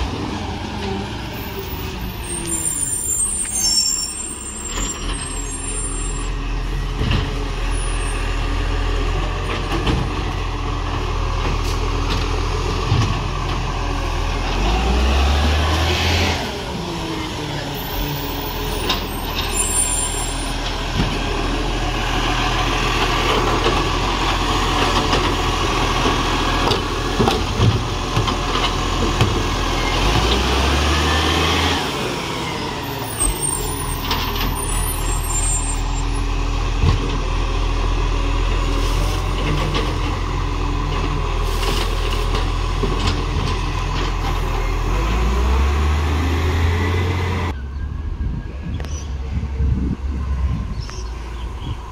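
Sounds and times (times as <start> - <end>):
garbage truck diesel engine revving: 0.0 - 47.6.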